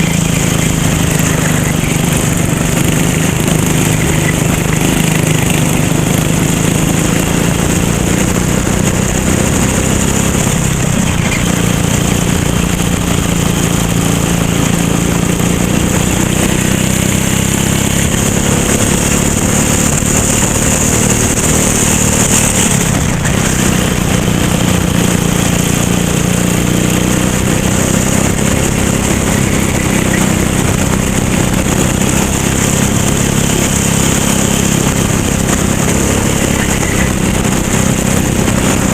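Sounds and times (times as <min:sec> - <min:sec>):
kart engine running: 0:00.0 - 0:38.9.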